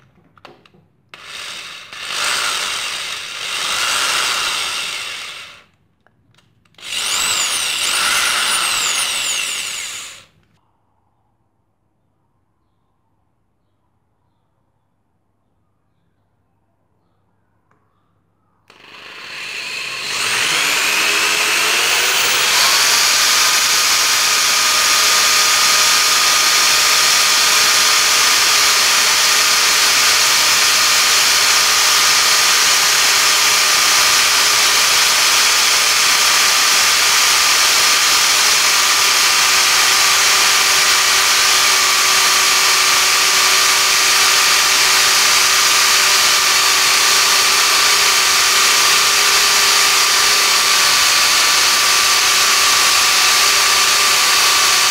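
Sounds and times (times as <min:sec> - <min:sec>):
electric drill whining: 0:01.2 - 0:05.7, 0:06.8 - 0:10.3, 0:18.7 - 0:54.9.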